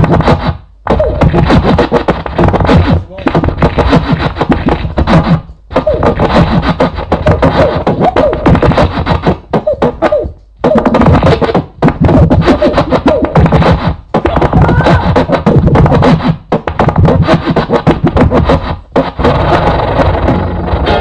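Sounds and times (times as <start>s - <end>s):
music beat: 0.0s - 21.0s
vinyl record scratching: 0.0s - 21.0s.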